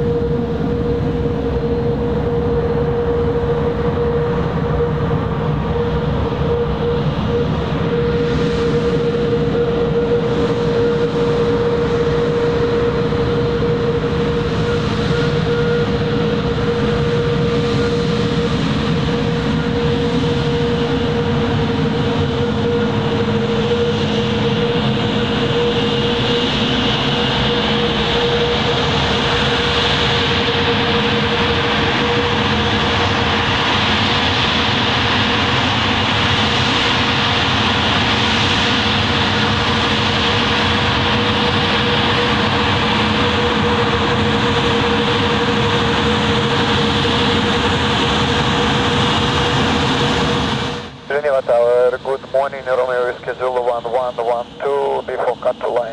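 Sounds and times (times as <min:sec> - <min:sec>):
jet engines whining: 0:00.0 - 0:55.9.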